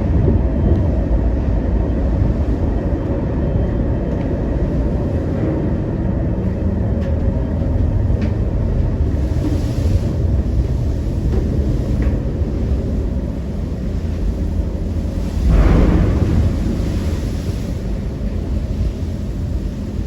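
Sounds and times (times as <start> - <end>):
ferry low rumble: 0.0 - 20.0
strong wind: 0.0 - 20.0.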